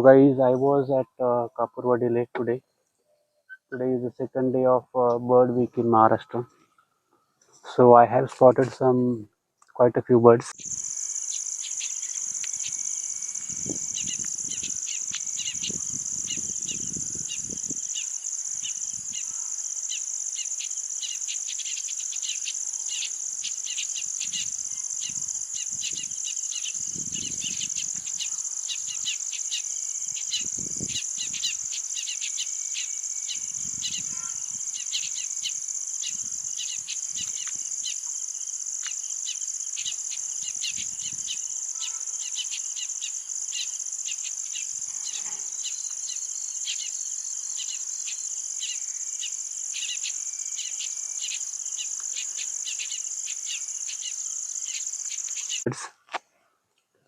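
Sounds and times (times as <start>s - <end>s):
insects droning: 0.0s - 2.6s, 3.2s - 55.7s
bird chirps: 2.4s - 4.4s, 10.6s - 38.1s, 38.8s - 55.7s.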